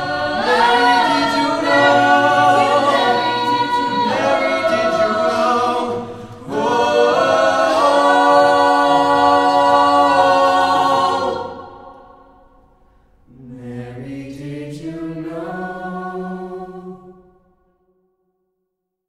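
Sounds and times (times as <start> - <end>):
mixed choir singing a cappella: 0.0 - 12.6, 13.3 - 17.4.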